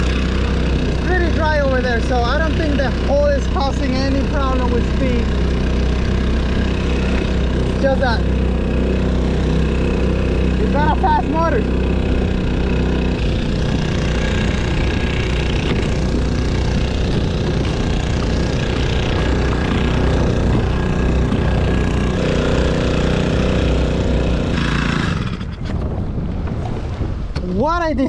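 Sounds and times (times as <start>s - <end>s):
outboard motor running: 0.0s - 28.0s.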